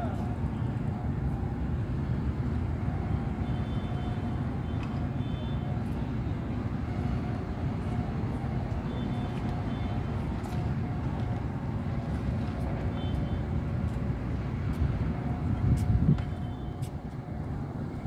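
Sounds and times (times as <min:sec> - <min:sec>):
vehicle engines idling: 0:00.0 - 0:18.0.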